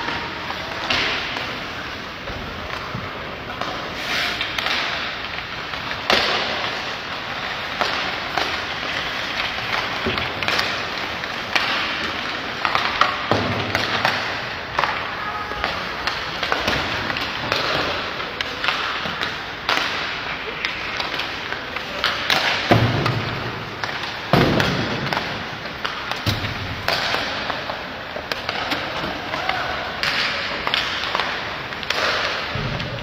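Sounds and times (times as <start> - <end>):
hockey sticks slapping pucks: 0.0 - 33.0
pucks knocking against boards: 0.0 - 33.0
skate blades scraping ice: 0.0 - 33.0.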